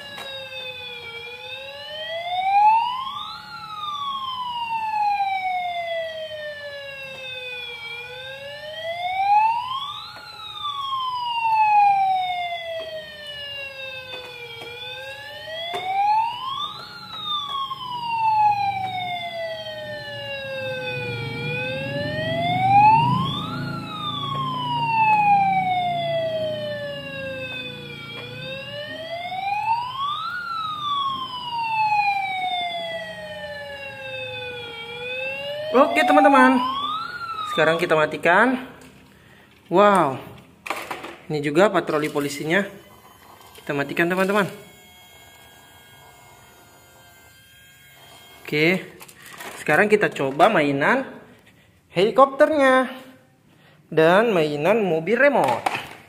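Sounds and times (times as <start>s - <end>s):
toy electronic siren wail: 0.0s - 38.8s, 41.9s - 49.5s.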